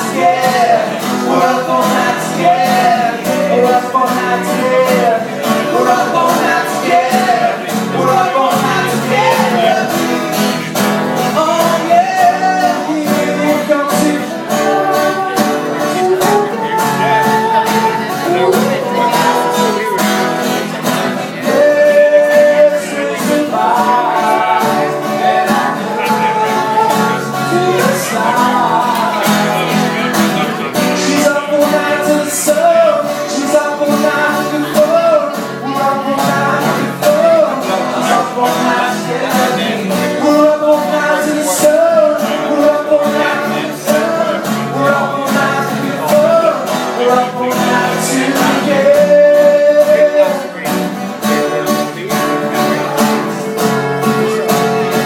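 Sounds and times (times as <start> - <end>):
acoustic guitars strummed: 0.0 - 55.0
man singing: 0.0 - 55.0.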